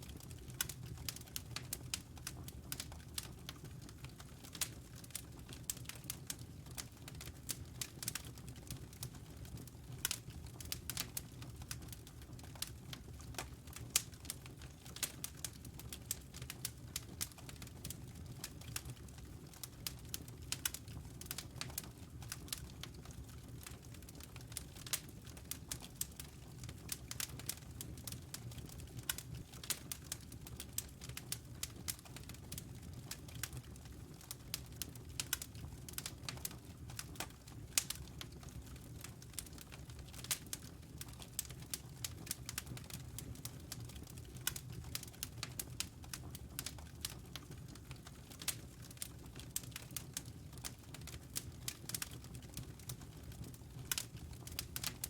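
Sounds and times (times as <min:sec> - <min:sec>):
low rumble of flames: 0:00.0 - 0:55.0
burning logs popping and snapping: 0:00.1 - 0:55.0.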